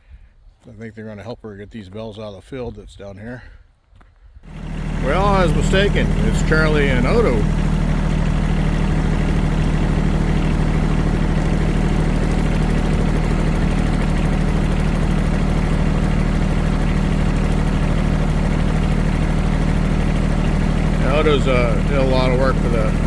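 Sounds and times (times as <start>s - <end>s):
vehicle engine idling: 4.4s - 23.0s.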